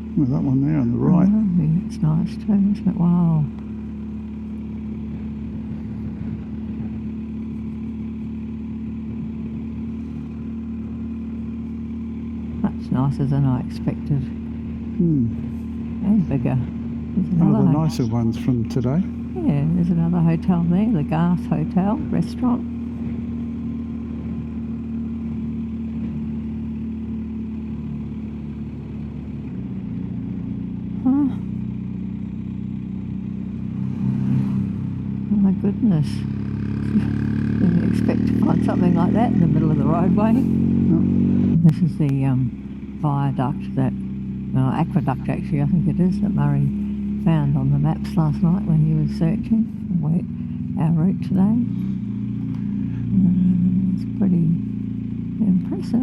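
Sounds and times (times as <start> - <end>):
motorcycle engine droning: 0.0 - 56.0
road noise: 0.0 - 56.0.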